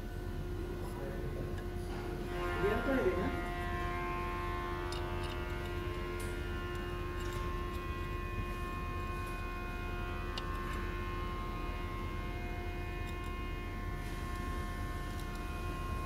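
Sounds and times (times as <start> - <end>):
machine hum: 0.0 - 16.0
steady held tones: 0.0 - 16.0.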